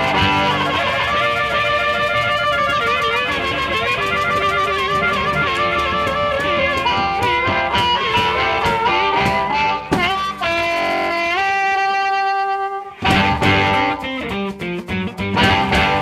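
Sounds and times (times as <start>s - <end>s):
band music led by guitar: 0.0s - 16.0s.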